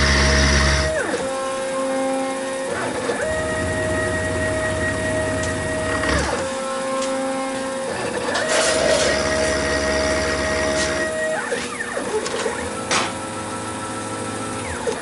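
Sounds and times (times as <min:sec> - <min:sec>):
milling machine motor whine: 0:00.0 - 0:15.0.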